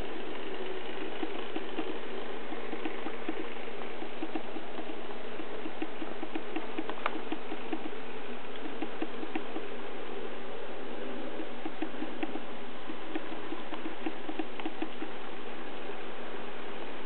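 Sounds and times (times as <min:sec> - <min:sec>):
rapid regular track clicking: 0:00.0 - 0:09.8, 0:11.4 - 0:15.4.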